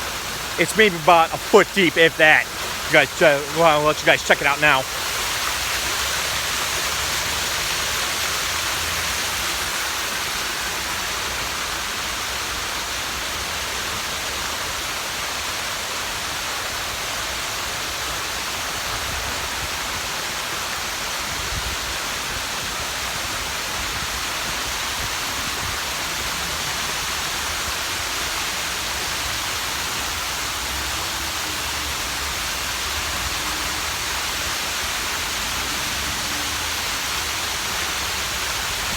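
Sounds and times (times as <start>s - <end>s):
water pouring over waterfall: 0.0s - 38.9s.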